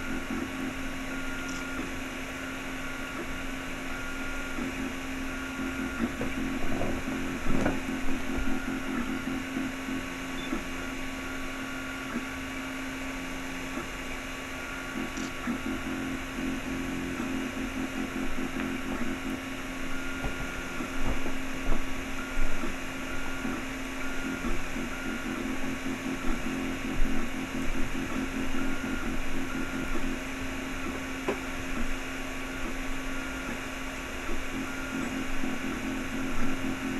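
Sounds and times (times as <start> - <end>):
printer fans humming: 0.0 - 36.9
stepper motors whining: 0.0 - 36.9.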